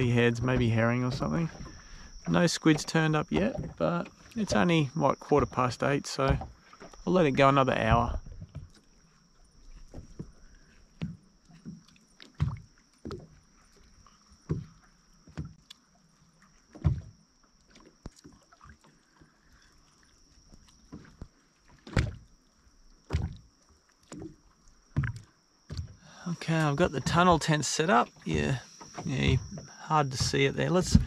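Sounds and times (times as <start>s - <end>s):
water slapping against boat hull: 0.0s - 15.9s, 16.5s - 31.0s
faint steady high whine: 0.0s - 31.0s.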